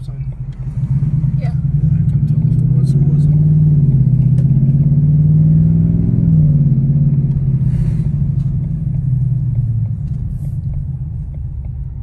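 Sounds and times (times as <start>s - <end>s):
car engine deep rumble: 0.0s - 12.0s.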